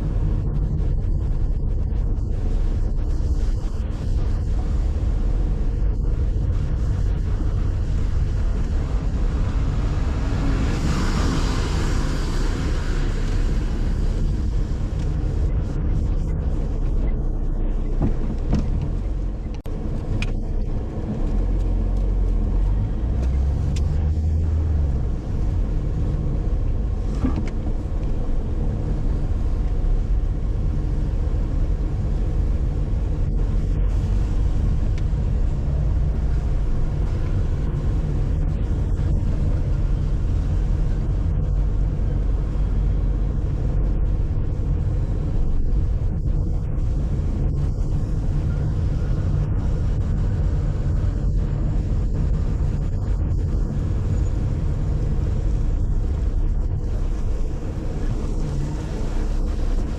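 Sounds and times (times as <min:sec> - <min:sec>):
car engine and road noise: 0:00.0 - 0:59.9
rushing noise: 0:00.0 - 0:59.9.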